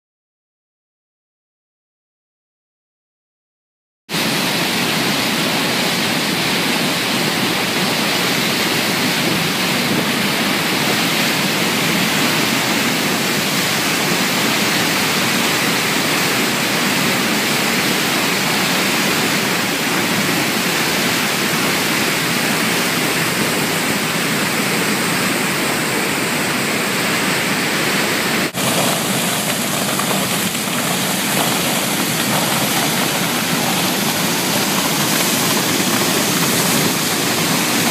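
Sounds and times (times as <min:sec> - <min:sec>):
rushing water over dam: 0:04.1 - 0:37.9.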